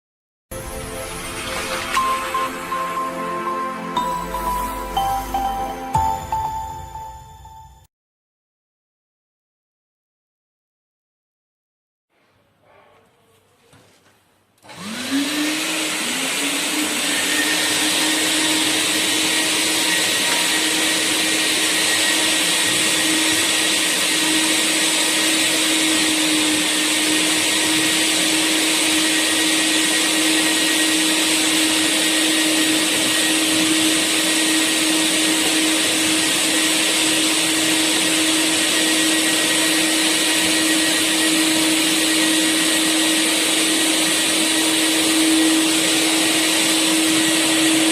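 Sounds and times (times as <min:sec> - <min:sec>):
industrial vacuum cleaner whine: 0:00.5 - 0:07.2, 0:14.6 - 0:47.9.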